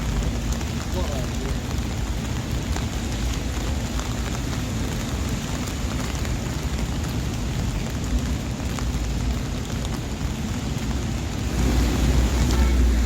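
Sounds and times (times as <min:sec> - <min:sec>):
steady rain hiss: 0:00.0 - 0:13.0
ticks of raindrops: 0:00.0 - 0:13.0.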